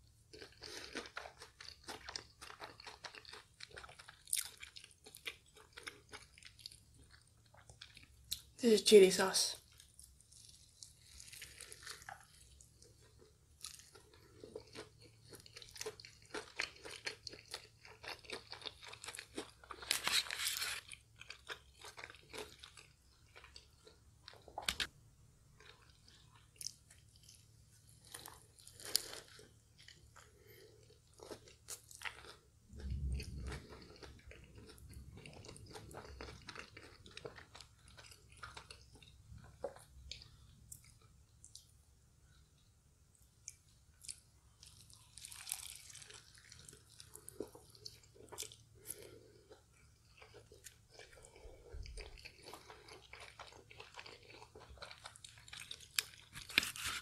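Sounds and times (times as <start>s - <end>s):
crunching and chewing burger: 0.0s - 8.4s, 9.6s - 24.9s, 25.5s - 42.6s, 43.3s - 57.0s.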